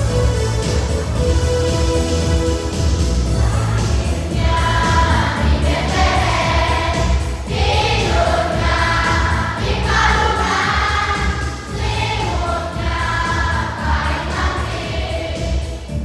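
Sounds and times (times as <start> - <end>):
backing music with bass line: 0.0 - 16.0
children's choir singing: 0.0 - 16.0.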